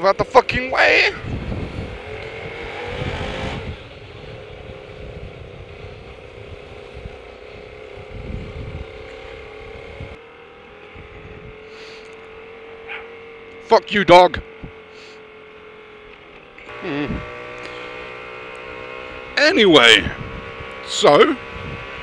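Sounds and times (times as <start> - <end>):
motorcycle engine running: 0.0 - 22.0
road rumble: 0.0 - 22.0.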